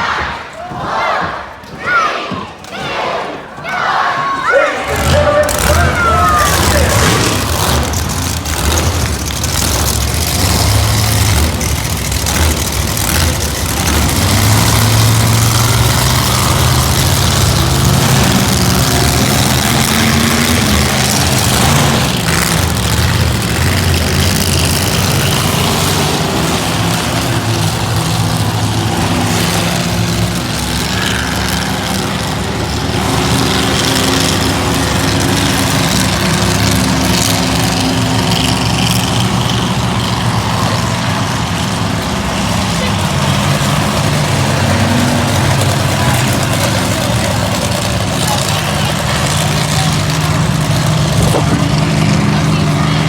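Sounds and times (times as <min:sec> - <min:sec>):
monster truck engines revving: 0:00.0 - 0:53.0.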